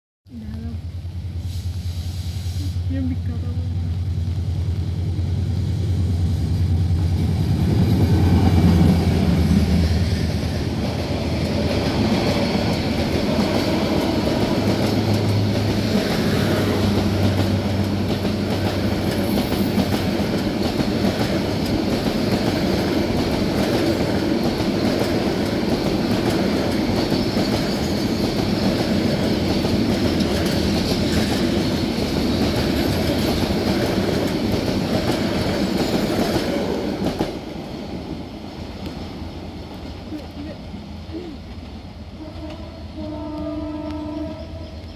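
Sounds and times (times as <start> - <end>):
diesel locomotive engine: 0.3 - 44.9
train wheels rumbling on rail: 0.4 - 44.9.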